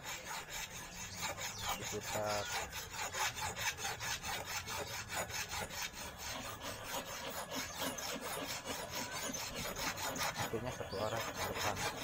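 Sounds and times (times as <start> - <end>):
metal file rasping on steel wire: 0.0 - 12.0.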